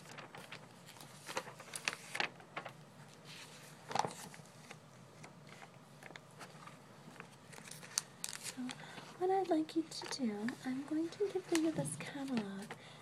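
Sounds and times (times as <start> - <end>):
paper pages rustling: 0.0 - 12.8.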